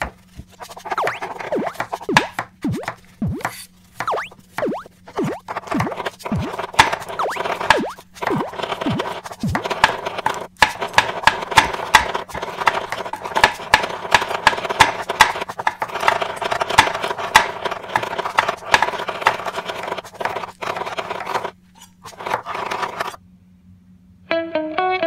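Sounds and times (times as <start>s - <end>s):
cleaver chopping on wooden board: 0.0s - 21.5s.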